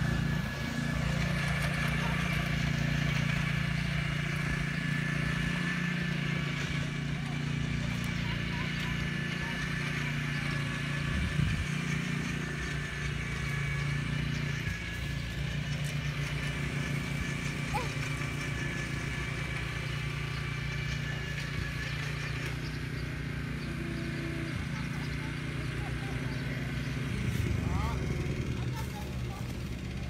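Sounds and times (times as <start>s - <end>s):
small gasoline engine running: 0.0s - 30.0s.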